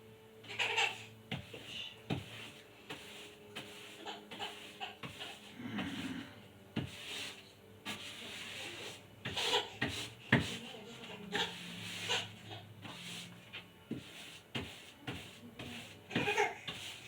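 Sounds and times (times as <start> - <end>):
paintbrush rubbing on wall: 0.5 - 17.0.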